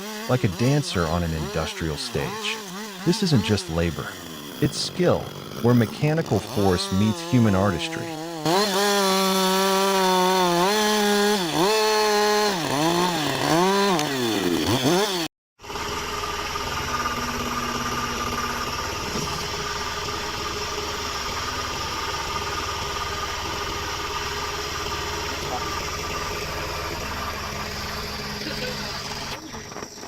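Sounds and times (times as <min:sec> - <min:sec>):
chainsaw cutting through log: 0:00.0 - 0:30.0.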